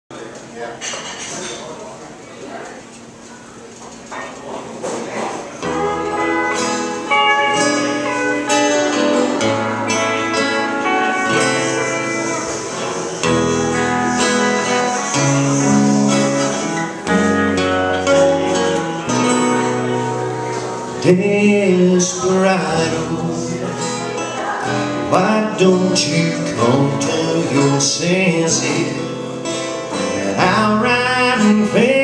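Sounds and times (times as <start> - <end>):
acoustic guitars strumming chords: 4.2 - 32.0
pedal steel guitar held notes: 5.6 - 32.0.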